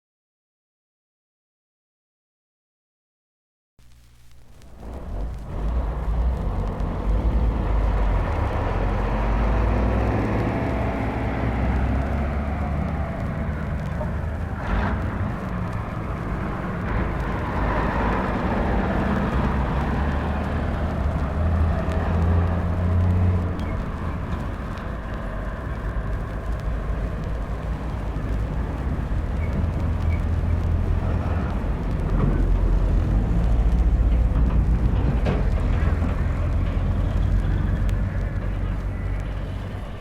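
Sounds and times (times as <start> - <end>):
engine humming: 3.8 - 40.0.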